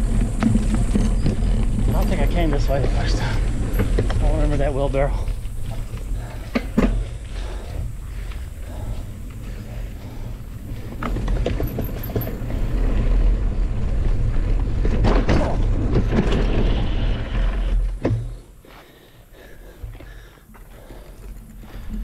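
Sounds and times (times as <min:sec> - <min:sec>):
wind buffeting microphone: 0:00.0 - 0:17.9
bike rattling and clicking: 0:00.0 - 0:22.0
tyres rolling over dirt: 0:00.0 - 0:22.0.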